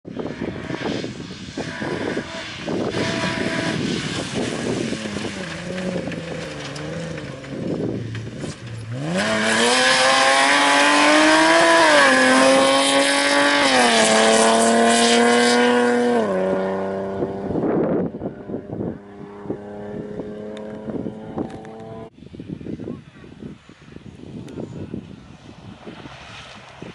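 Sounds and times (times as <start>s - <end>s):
rally car engine accelerating: 0.1s - 22.1s.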